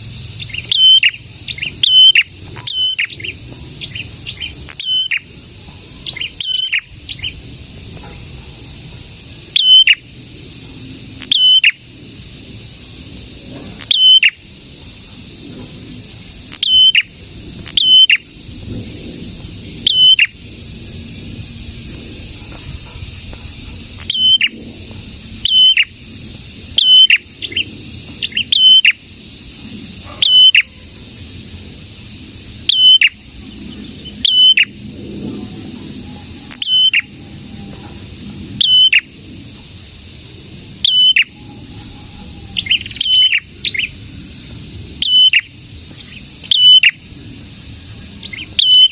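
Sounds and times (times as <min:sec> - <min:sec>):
songbird calling: 0:00.0 - 0:48.9.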